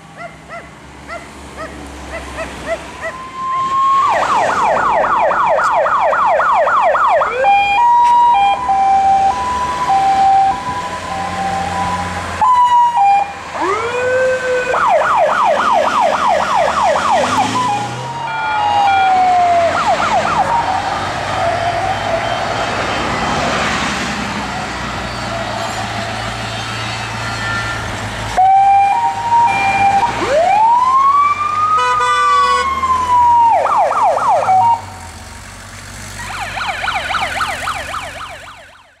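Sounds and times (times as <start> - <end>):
fire engine sirens: 0.0 - 39.0.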